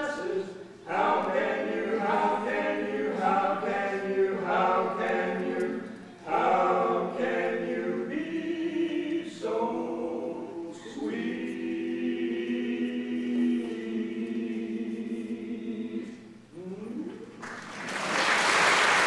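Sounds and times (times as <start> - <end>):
vocal group singing in harmony: 0.0 - 16.6.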